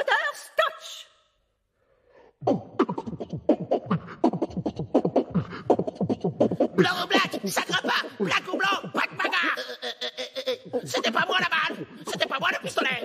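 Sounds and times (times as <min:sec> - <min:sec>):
boy beatboxing into microphone: 0:02.4 - 0:13.0.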